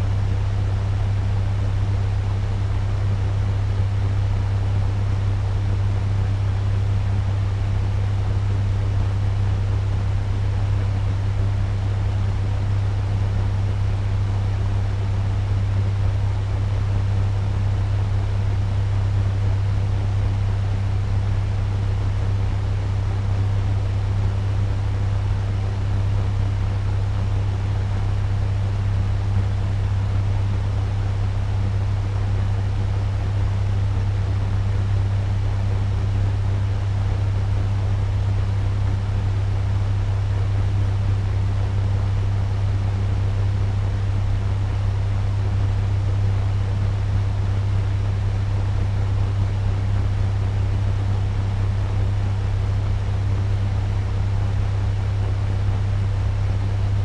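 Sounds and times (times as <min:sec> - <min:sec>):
fan air rush: 0:00.0 - 0:57.0
low hum: 0:09.6 - 0:57.0.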